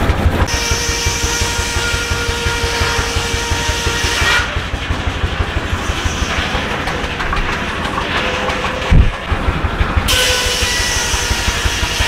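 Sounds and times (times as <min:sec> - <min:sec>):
tractor engine exhaust beat: 0:00.0 - 0:12.0.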